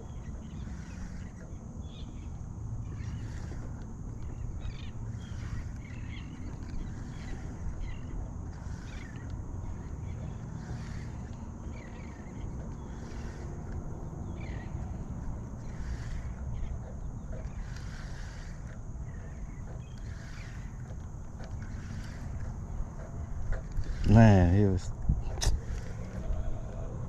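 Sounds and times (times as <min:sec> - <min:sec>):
birds chirping: 0:00.0 - 0:27.0
low rumble of wind or water: 0:00.0 - 0:27.0.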